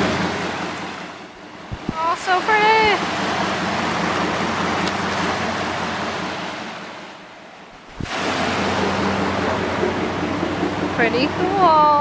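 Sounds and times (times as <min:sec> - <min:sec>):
creek water rushing: 0:00.0 - 0:11.9
low steady hum: 0:00.0 - 0:12.0.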